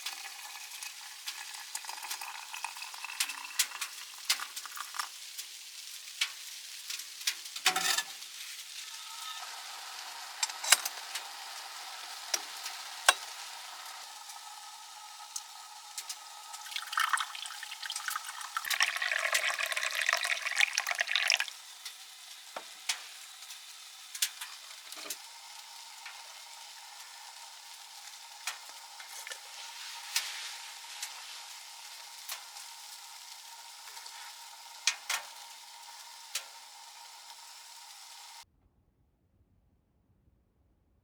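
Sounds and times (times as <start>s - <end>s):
food sizzling in a pan: 0.0s - 38.4s.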